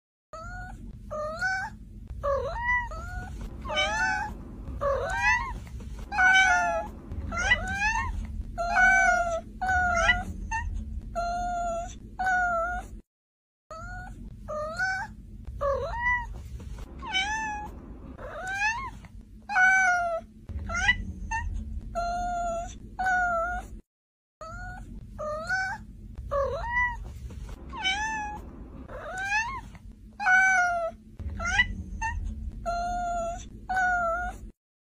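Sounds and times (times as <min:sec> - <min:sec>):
cat meowing: 0:00.4 - 0:12.9, 0:13.8 - 0:16.4, 0:17.0 - 0:23.7, 0:24.4 - 0:27.0, 0:27.7 - 0:29.6, 0:30.2 - 0:34.4.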